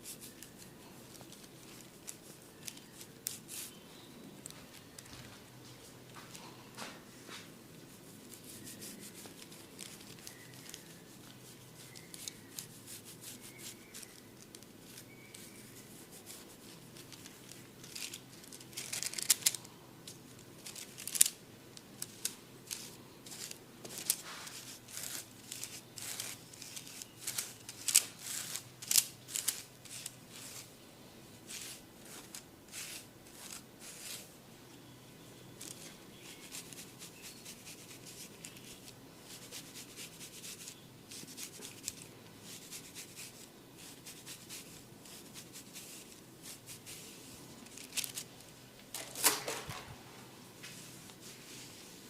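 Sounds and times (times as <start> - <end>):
hair crackling under hands and comb: 0.0 - 30.8, 31.4 - 34.3, 35.6 - 51.8.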